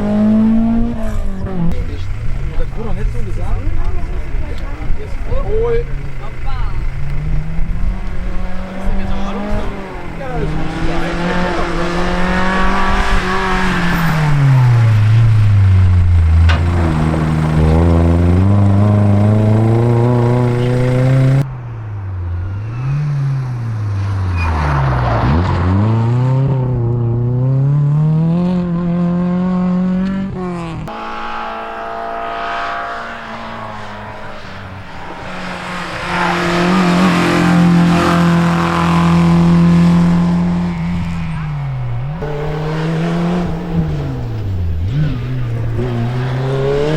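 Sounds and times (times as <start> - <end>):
rally car engines at full throttle: 0.0 - 46.9.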